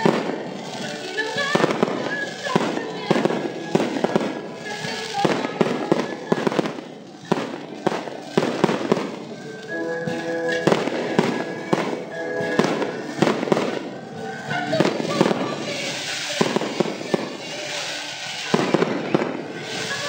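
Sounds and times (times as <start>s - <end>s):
fireworks bangs and crackles: 0.0s - 20.0s
fireworks fountains hissing: 0.0s - 20.0s.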